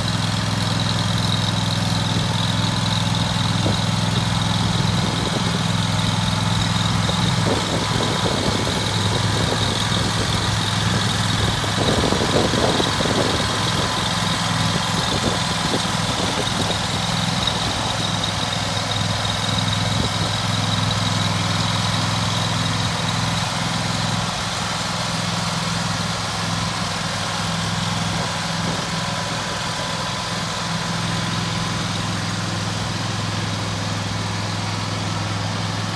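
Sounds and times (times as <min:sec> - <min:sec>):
mower engine idling: 0:00.0 - 0:35.9.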